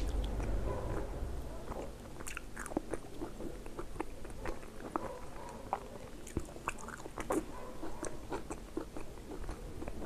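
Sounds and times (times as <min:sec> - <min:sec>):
chewing soft food: 0:00.0 - 0:10.0.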